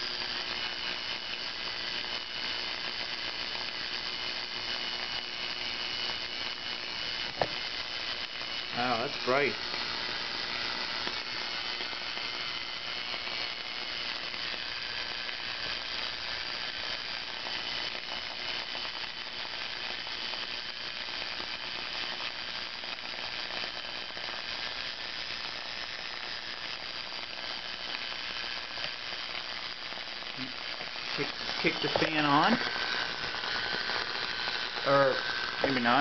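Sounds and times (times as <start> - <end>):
crackling motor brushes arcing: 0.0 - 36.0
electric motor high whine: 0.0 - 36.0.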